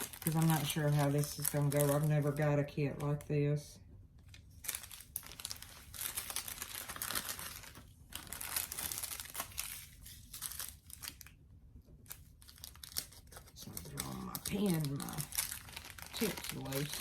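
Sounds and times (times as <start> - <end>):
plastic bags crinkling: 0.0 - 3.3, 4.2 - 11.4, 12.0 - 17.0.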